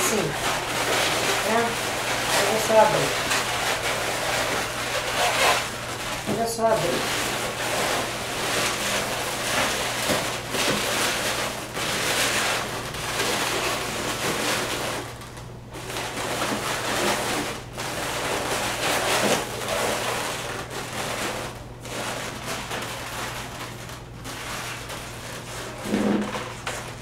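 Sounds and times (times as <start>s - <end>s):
balloons rubbing and rustling: 0.0s - 27.0s.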